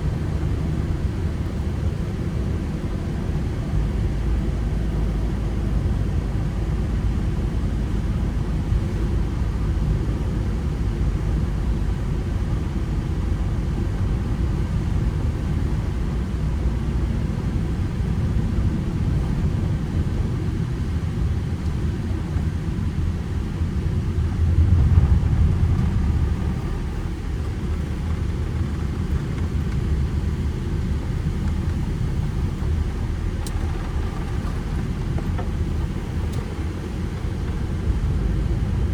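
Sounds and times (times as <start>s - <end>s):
van engine and road noise: 0.0s - 38.9s.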